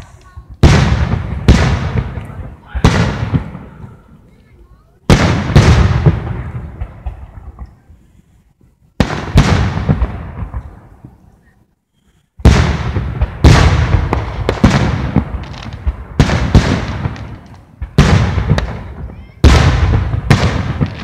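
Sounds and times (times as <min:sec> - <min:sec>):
firework shells booming: 0:00.2 - 0:04.2, 0:05.0 - 0:07.9, 0:09.0 - 0:11.2, 0:12.4 - 0:21.0.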